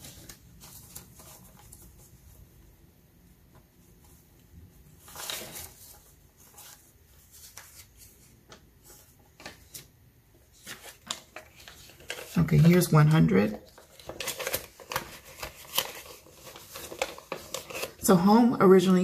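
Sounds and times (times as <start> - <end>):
paper banknotes rustling: 0.0 - 2.4, 5.0 - 18.0.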